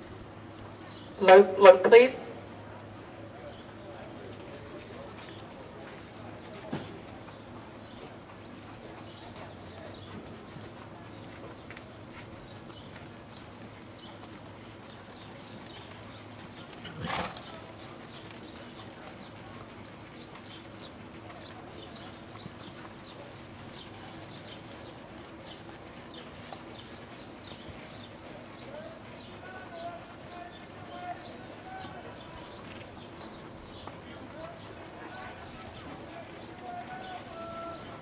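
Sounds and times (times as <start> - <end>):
faint hoofbeats on dirt: 0.0 - 38.0.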